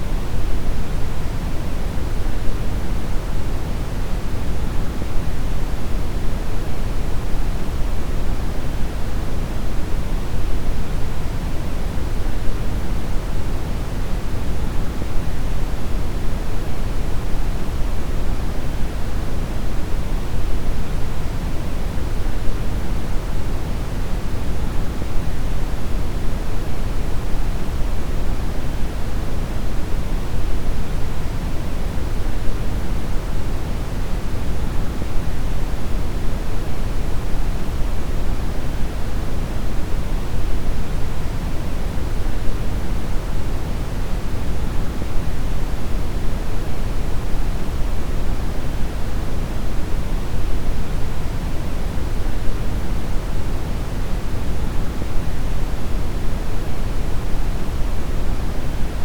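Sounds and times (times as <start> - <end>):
brown noise hiss: 0.0 - 59.0.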